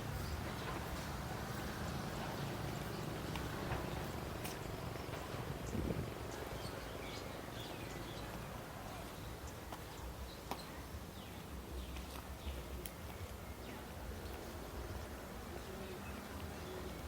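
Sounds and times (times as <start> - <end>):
birds chirping faintly: 0.0 - 17.0
low outdoor rumble: 0.0 - 17.0.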